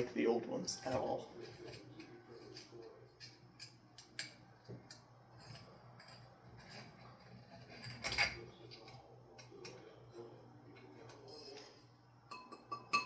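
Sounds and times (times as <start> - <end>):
faint low hum: 0.0 - 13.0
glass and metal clinking: 0.7 - 13.0.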